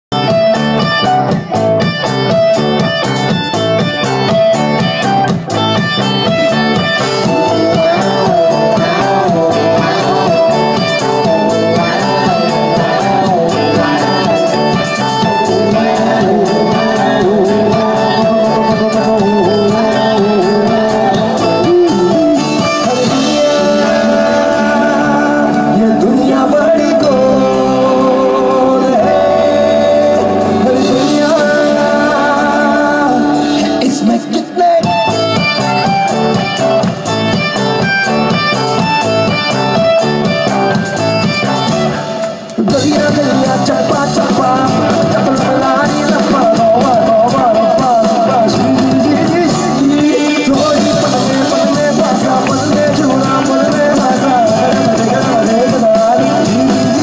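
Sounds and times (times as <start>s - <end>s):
drums: 0.0s - 57.0s
electric guitars: 0.1s - 57.0s
man singing: 6.2s - 36.6s, 39.4s - 57.0s.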